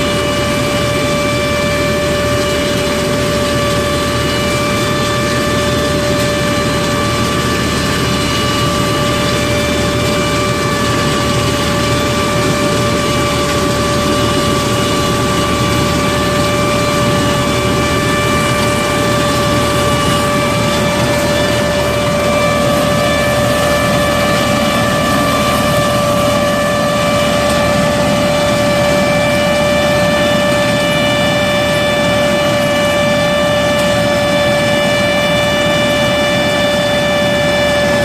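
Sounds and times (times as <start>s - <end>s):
harvester machine running: 0.0s - 38.0s
high-pitched machine whine: 0.0s - 38.0s.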